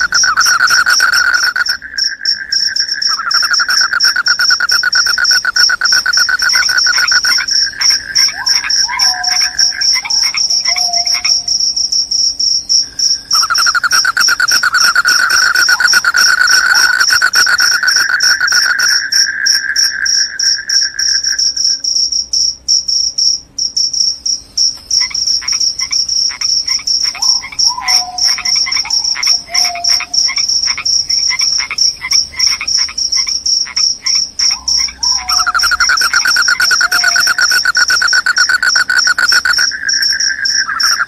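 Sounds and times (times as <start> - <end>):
crickets chirping: 0.0 - 41.0
lower pulsing insect call: 0.0 - 41.0.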